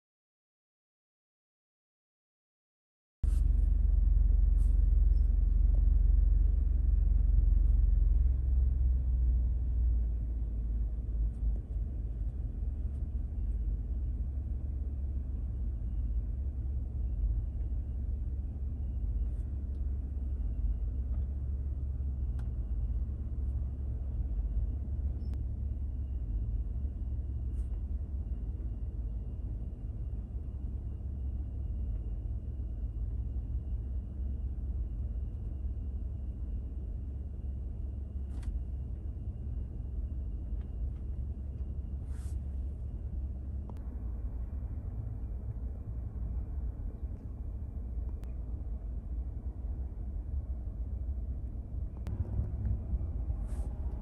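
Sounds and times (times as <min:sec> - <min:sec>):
low rumble in vehicle cab: 0:03.2 - 0:54.0.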